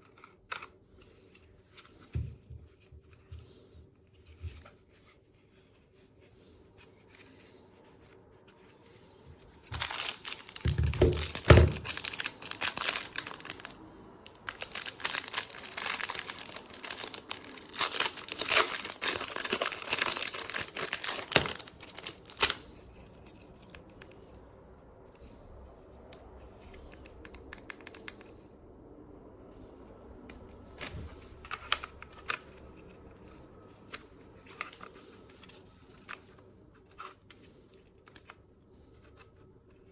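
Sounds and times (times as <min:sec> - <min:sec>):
crinkling and rustling handling: 0:00.0 - 0:28.6, 0:29.5 - 0:39.9.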